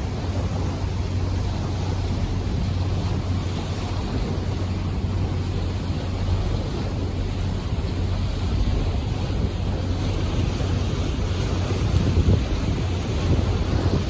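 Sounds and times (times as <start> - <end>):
boat engine humming: 0.0 - 14.0
water rushing: 0.0 - 14.0
wind on microphone: 0.0 - 14.0.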